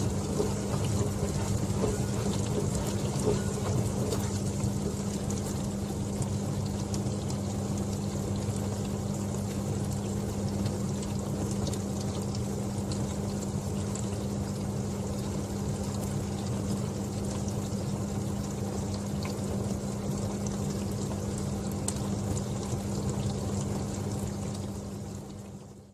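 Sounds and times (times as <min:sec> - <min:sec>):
water spraying and splashing: 0:00.0 - 0:24.7
dishwasher pump hum: 0:00.0 - 0:25.9.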